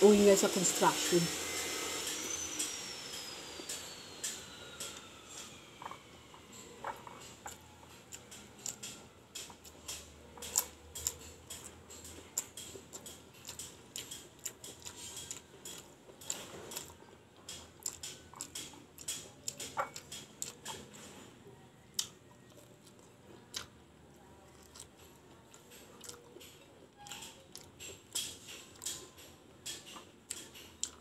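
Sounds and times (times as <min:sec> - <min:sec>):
food crunching: 0:04.2 - 0:21.1, 0:21.8 - 0:31.0.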